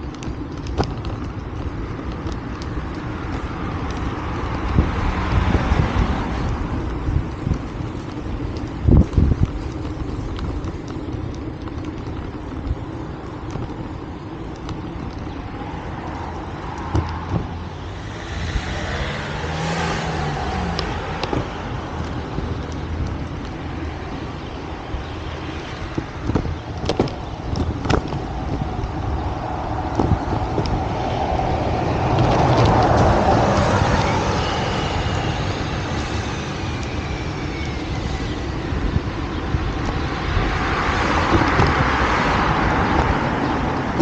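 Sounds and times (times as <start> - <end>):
steady low traffic rumble: 0.0 - 44.0
car passing: 2.2 - 8.8, 14.2 - 44.0.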